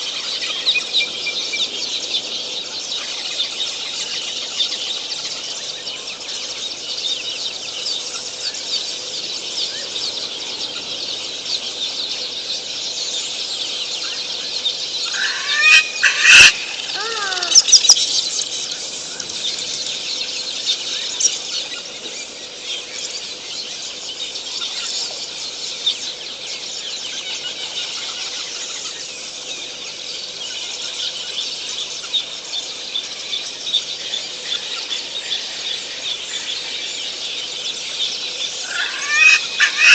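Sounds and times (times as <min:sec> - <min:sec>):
chorus of bird chirps: 0:00.0 - 0:39.9.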